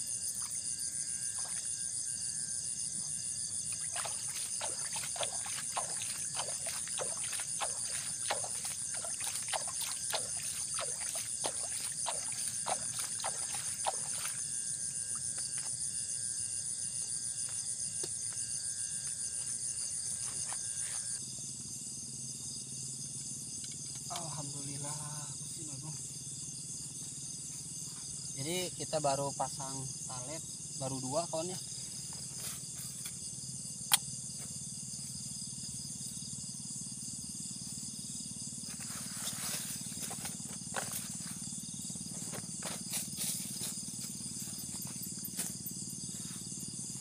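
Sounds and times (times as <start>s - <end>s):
night insects chorus: 0.0s - 47.0s.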